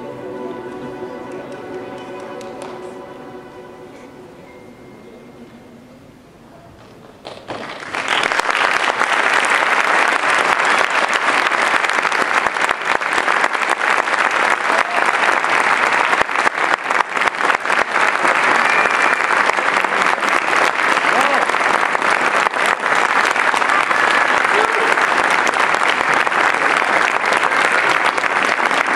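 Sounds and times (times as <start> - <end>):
audience applause: 1.3 - 3.0, 7.2 - 28.9.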